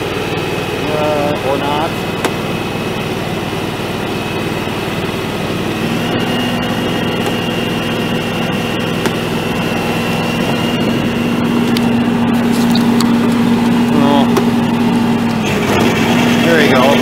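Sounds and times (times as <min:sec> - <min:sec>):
garden tractor engine running: 0:00.0 - 0:17.0.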